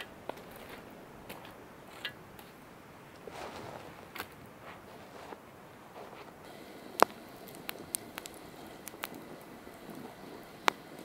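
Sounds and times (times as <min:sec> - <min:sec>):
stick crunching in coals: 0:00.0 - 0:11.0.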